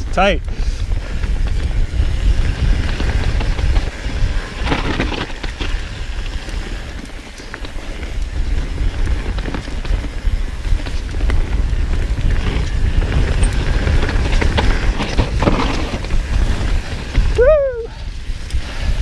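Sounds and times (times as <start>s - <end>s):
wind buffeting microphone: 0.0s - 19.0s
bike rattles and knocks: 0.1s - 19.0s
tyres rumbling over dirt and rock: 0.9s - 17.5s.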